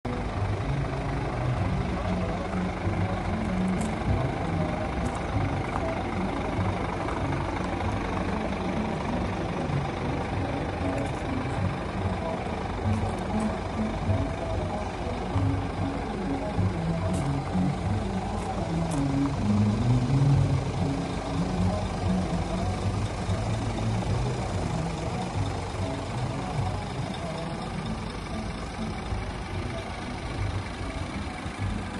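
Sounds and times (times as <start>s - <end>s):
truck diesel engine idling: 0.0s - 31.9s.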